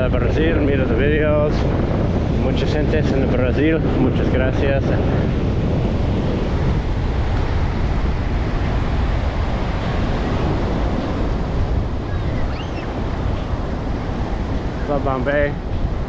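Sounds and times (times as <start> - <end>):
surf breaking on sandy beach: 0.0 - 16.0
wind buffeting microphone: 0.0 - 16.0.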